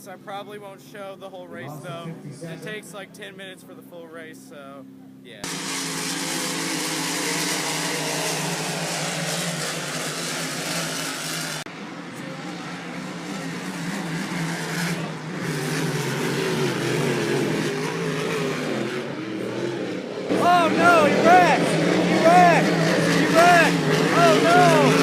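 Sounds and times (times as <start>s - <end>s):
racing hydroplane engines: 0.0s - 25.0s.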